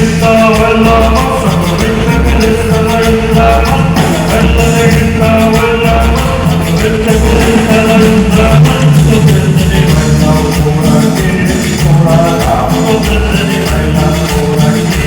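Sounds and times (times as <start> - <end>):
latin band music: 0.0 - 15.0
person singing: 0.0 - 15.0.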